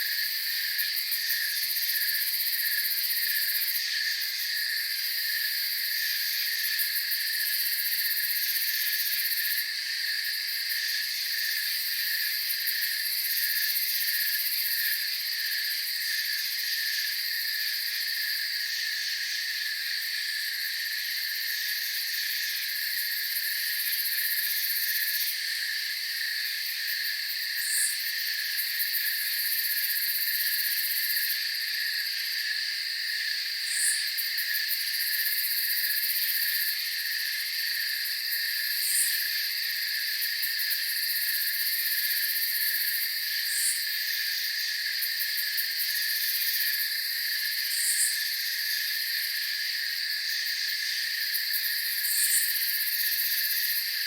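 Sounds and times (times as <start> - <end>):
crickets chirping: 0.0 - 54.0
high-pitched cricket trill: 0.0 - 54.0.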